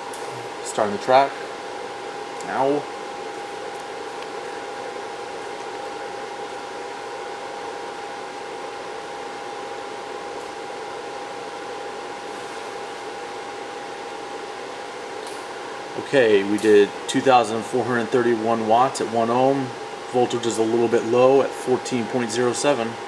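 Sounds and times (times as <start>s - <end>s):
cooling fans whirring: 0.0s - 23.0s.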